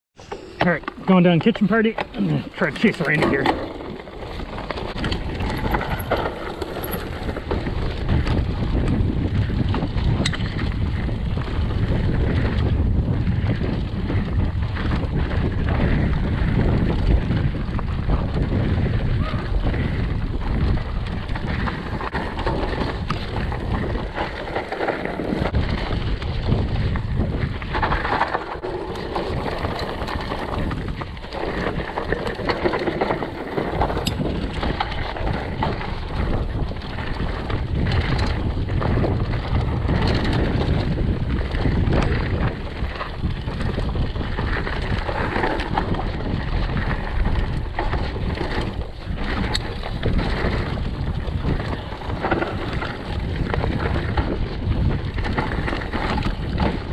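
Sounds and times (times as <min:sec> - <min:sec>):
bike tyres on dirt: 0:00.2 - 0:56.9
wind rushing on microphone: 0:00.2 - 0:56.9
bike chain rattling and knocking: 0:00.3 - 0:56.9.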